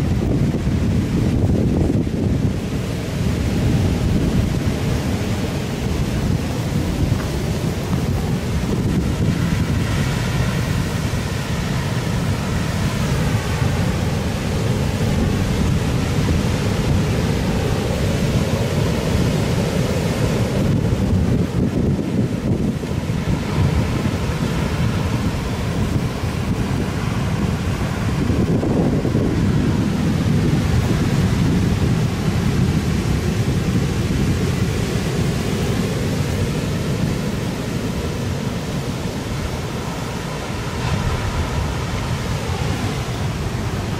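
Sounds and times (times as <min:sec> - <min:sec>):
heavy surf pounding the shore: 0:00.0 - 0:43.9
wind buffeting microphone: 0:00.0 - 0:43.9.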